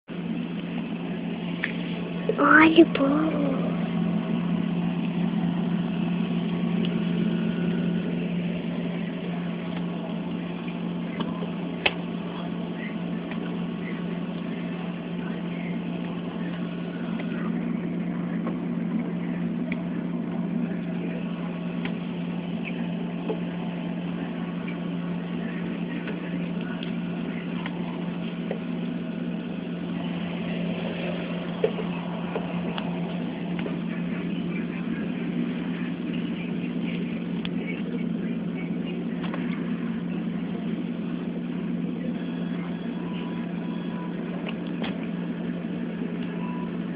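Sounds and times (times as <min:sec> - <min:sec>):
refrigerator humming: 0:00.1 - 0:46.9.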